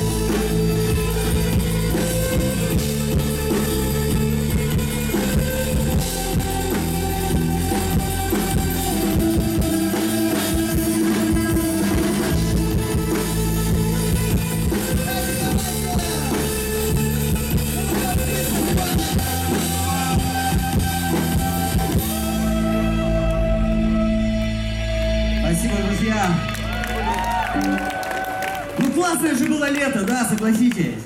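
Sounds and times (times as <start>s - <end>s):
drum kit: 0.0s - 28.0s
electric guitars: 0.0s - 31.0s
live rock band: 0.0s - 31.0s.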